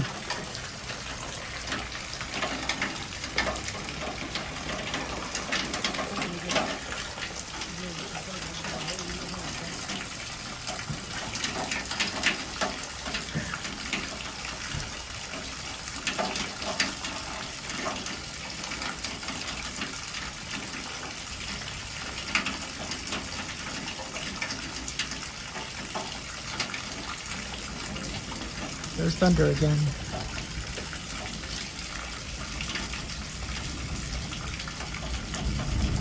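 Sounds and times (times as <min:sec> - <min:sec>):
heavy rain falling: 0:00.0 - 0:36.0
water gushing from gutters: 0:00.0 - 0:36.0.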